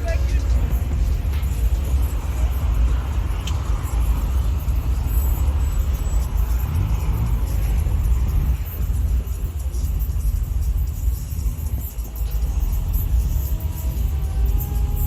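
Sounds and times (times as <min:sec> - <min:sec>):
car engine running: 0:00.0 - 0:14.1.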